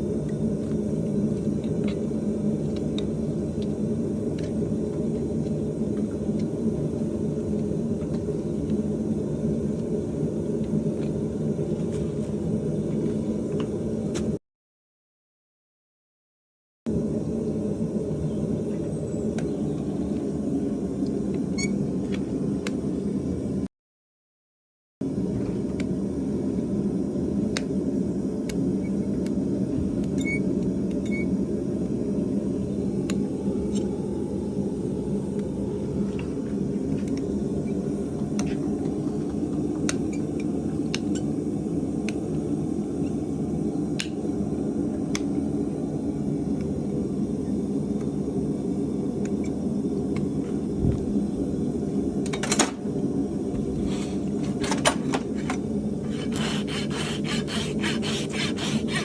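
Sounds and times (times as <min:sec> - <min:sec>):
low mechanical hum: 0:00.0 - 0:14.4, 0:16.9 - 0:23.7, 0:25.0 - 0:59.0.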